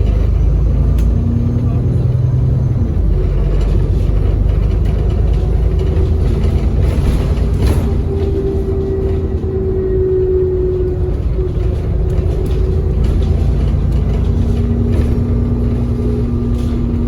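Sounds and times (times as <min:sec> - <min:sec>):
bus engine rumble: 0:00.0 - 0:17.0
lower whine: 0:00.0 - 0:17.0.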